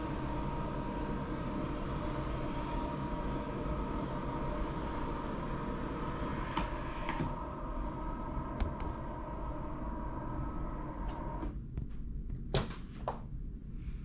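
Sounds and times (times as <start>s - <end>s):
machine hum with high tone: 0.0s - 11.6s.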